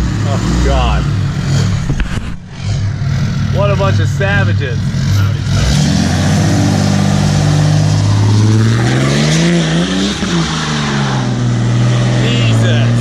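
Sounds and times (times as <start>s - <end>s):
diesel truck accelerating: 0.0s - 13.0s.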